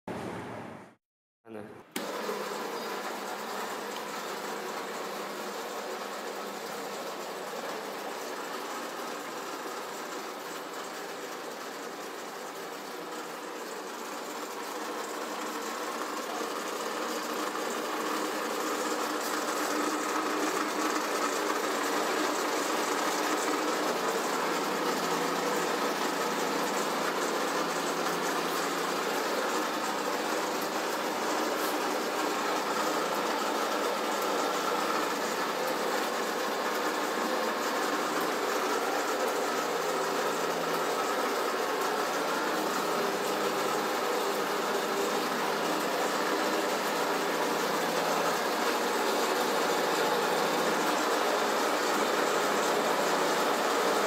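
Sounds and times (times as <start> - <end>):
steady mechanical running noise: 0.1 - 54.0.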